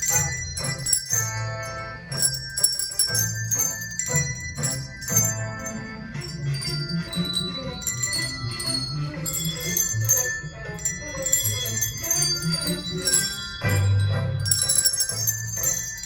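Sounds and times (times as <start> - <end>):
handbell choir playing: 0.0 - 16.0.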